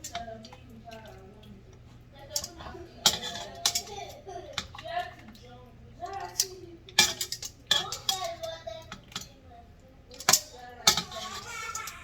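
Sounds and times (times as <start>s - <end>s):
voices talking: 0.0s - 12.0s.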